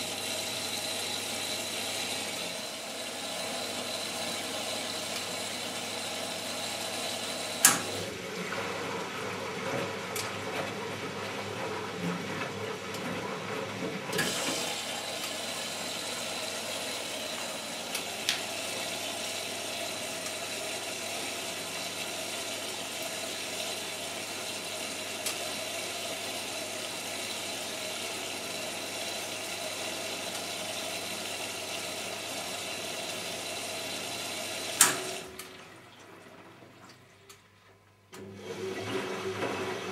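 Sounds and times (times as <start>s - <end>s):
washing machine filling with water: 0.0s - 39.9s.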